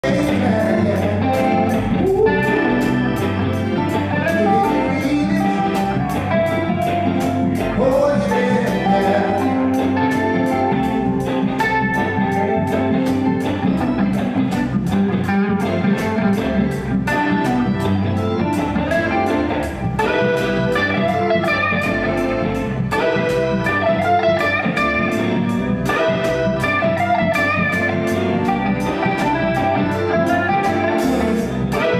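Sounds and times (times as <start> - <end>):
electric guitar: 0.0 - 31.9
reggae band playing: 0.0 - 31.9.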